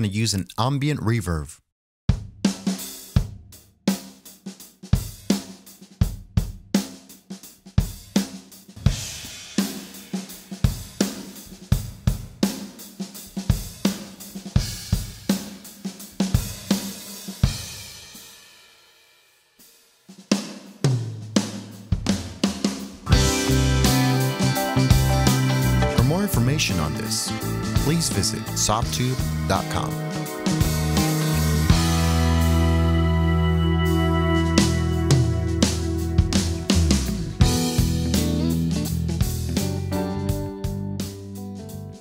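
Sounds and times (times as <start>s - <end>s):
drum kit playing groove: 2.1s - 18.6s, 20.0s - 42.0s.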